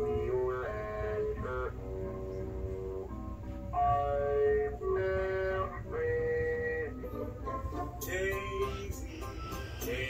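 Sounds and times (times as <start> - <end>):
slow melody of held notes: 0.0 - 10.0.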